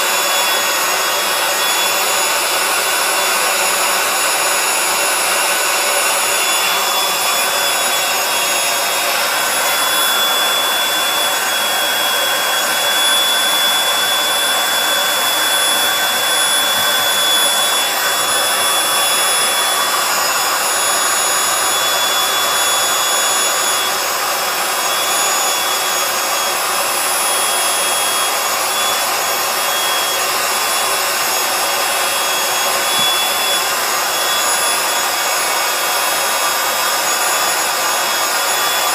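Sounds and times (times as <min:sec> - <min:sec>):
electric blower whining: 0:00.0 - 0:38.9.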